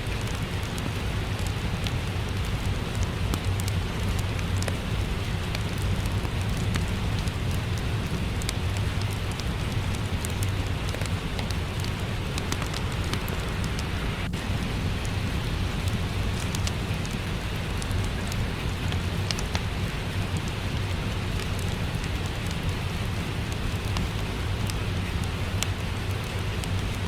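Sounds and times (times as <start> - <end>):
steady rain: 0.0 - 27.0
wood fire crackling: 0.0 - 27.0.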